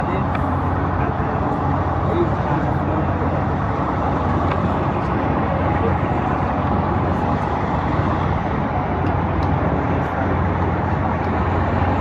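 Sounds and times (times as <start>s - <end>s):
road noise: 0.0s - 12.0s
vehicle engine: 0.0s - 12.0s.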